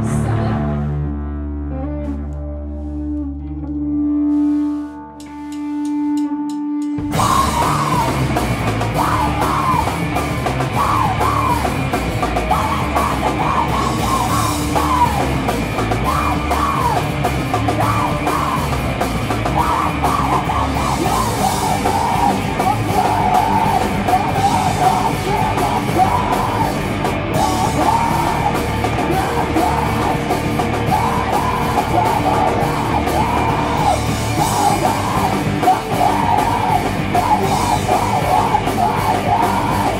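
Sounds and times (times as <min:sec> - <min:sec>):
heavy rock band playing: 0:00.0 - 0:39.9
screamed vocal: 0:07.1 - 0:39.9.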